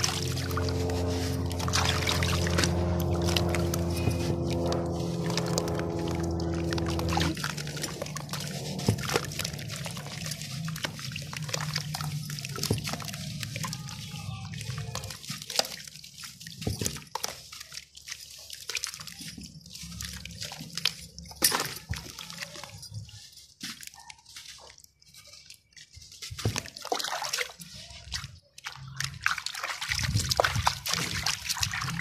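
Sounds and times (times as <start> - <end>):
water splashing and dripping: 0.0 - 32.0
wet cement crumbling: 0.0 - 32.0.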